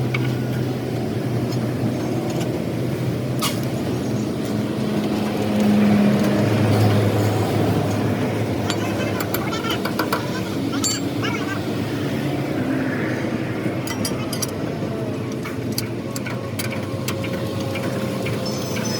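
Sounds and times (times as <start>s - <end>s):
vehicle engine humming: 0.0s - 18.9s.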